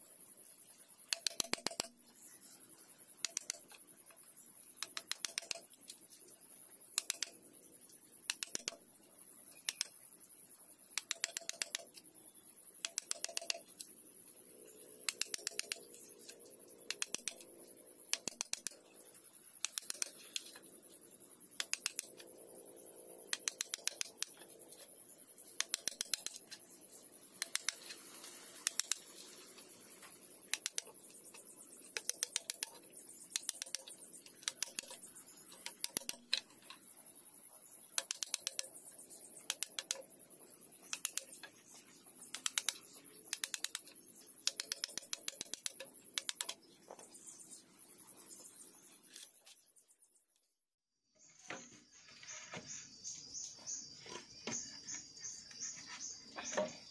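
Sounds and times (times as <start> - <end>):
steady high-pitched hiss: 0.0 - 49.2.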